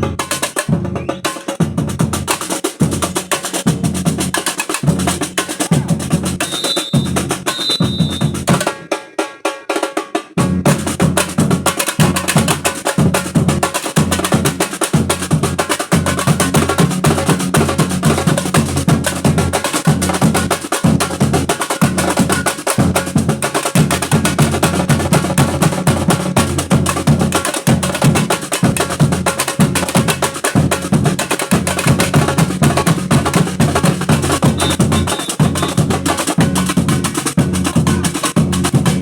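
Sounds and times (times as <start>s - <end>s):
deep bass drums: 0.0s - 8.8s, 10.4s - 39.0s
rapid snare drum strokes: 0.0s - 39.0s
samba percussion ensemble: 0.0s - 39.0s.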